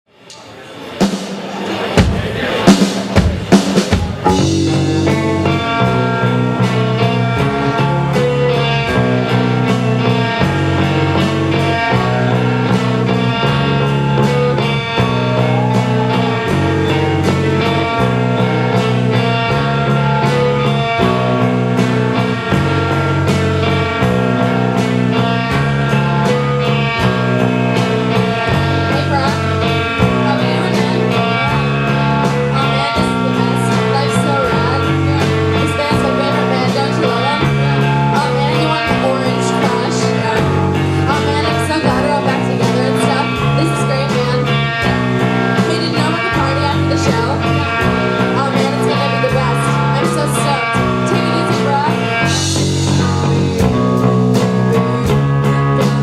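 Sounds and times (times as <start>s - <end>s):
rock band playing live: 0.2s - 56.0s
guitar chords: 2.5s - 56.0s.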